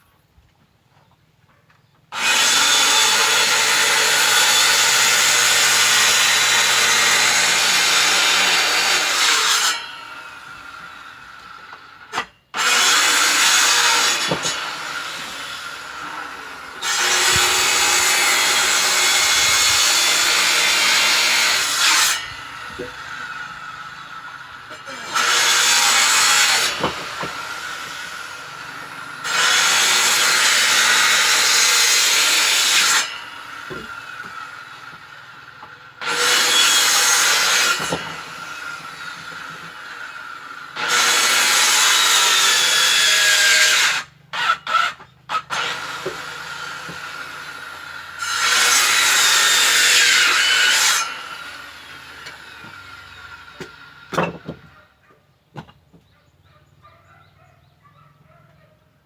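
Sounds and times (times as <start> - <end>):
power saw cutting wood: 2.1 - 54.8.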